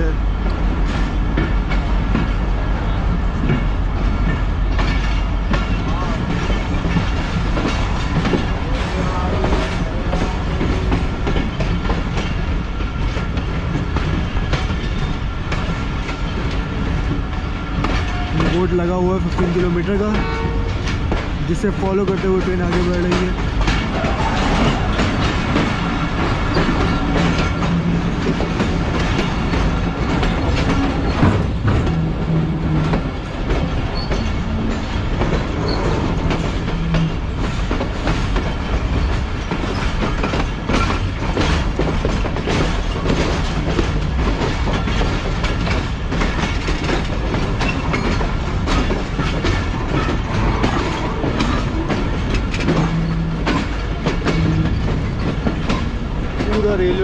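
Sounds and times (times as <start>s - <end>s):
steady train rumble: 0.0s - 57.0s
train wheels clattering over joints: 0.0s - 57.0s.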